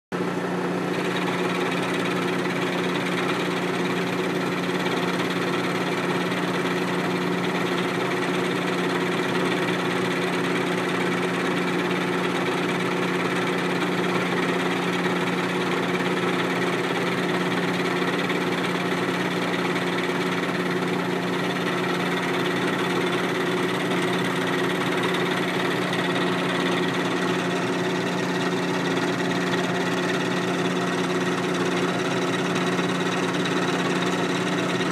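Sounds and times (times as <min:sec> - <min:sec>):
milling machine humming: 0:00.2 - 0:34.9.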